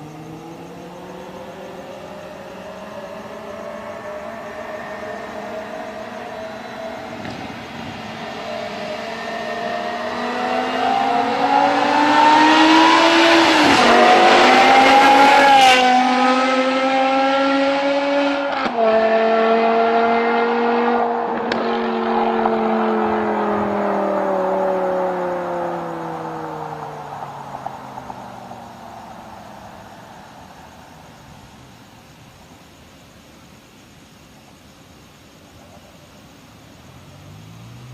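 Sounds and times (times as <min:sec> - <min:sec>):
car engine accelerating: 0:00.0 - 0:31.5, 0:36.6 - 0:37.9.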